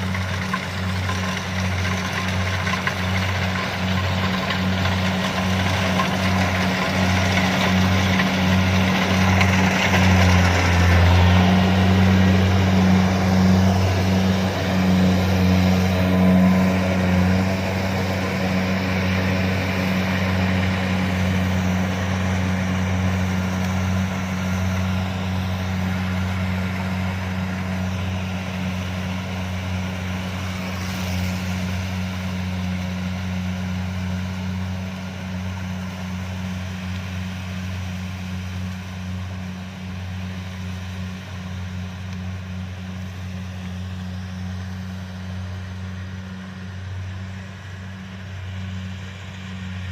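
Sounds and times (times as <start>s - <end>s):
combine harvester diesel engine drone: 0.0s - 49.9s.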